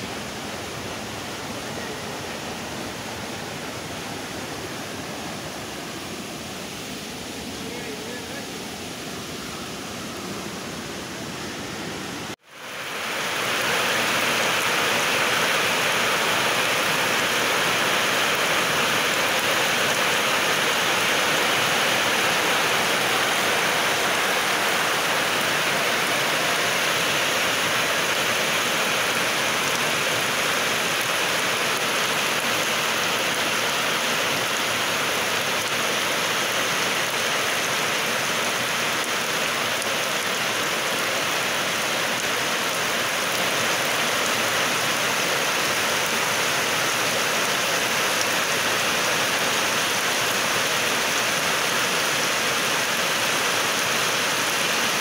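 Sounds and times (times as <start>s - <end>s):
heavy rain on a field: 0.0s - 55.0s
runoff water streaming: 0.0s - 55.0s.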